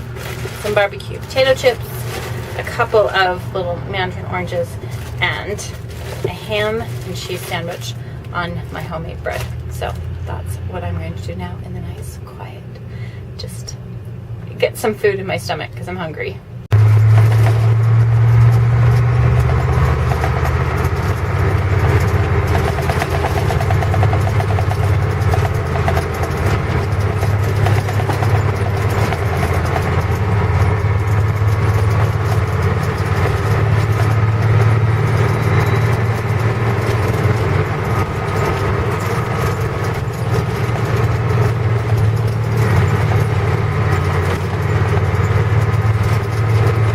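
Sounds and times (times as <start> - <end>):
large engine droning: 0.0 - 46.9.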